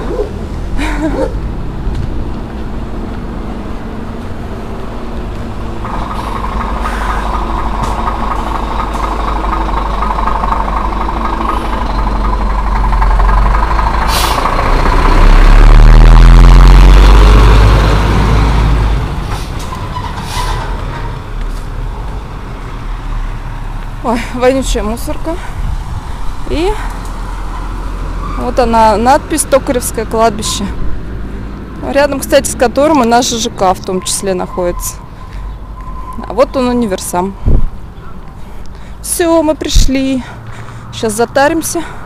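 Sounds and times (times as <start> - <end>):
dump truck driving past: 0.0 - 37.5.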